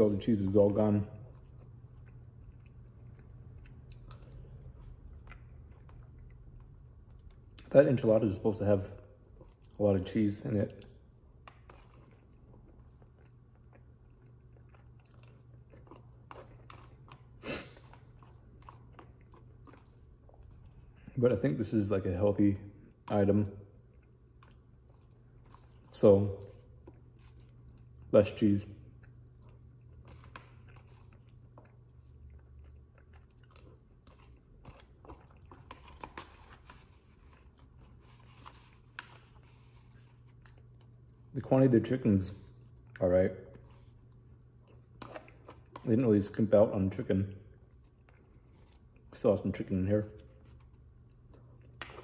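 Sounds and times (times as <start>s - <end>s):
person chewing food: 0.0s - 7.9s, 9.0s - 21.2s, 22.8s - 41.4s, 42.4s - 46.0s, 47.5s - 49.1s, 50.1s - 52.0s
low steady hum: 0.0s - 52.0s.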